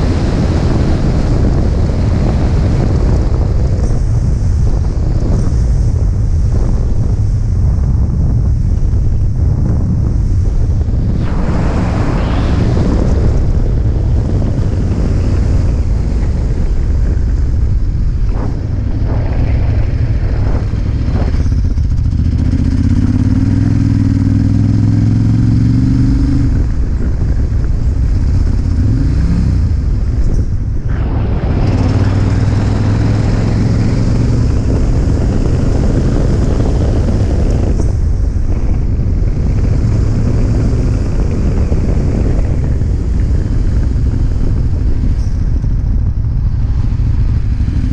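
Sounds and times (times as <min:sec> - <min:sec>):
motorcycle engine running: 0:00.0 - 0:47.9
wind rushing over microphone: 0:00.0 - 0:47.9.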